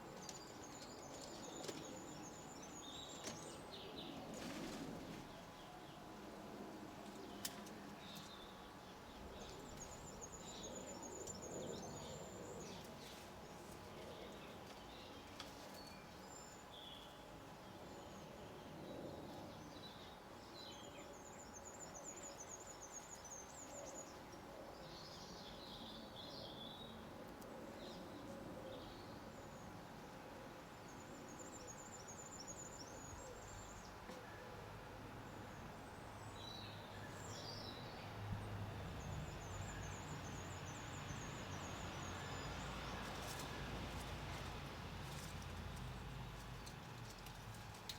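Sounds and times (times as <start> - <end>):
low background hum: 0.0 - 47.9.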